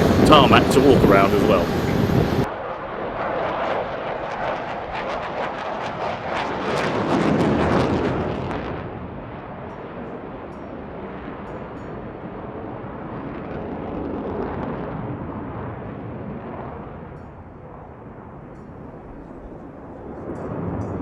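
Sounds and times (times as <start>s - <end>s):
aircraft engine roar: 0.0s - 21.0s.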